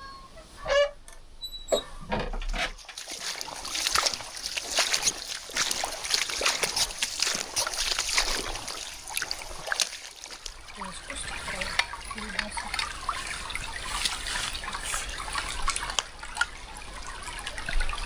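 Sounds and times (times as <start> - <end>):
water splashing and sloshing: 1.8 - 18.0.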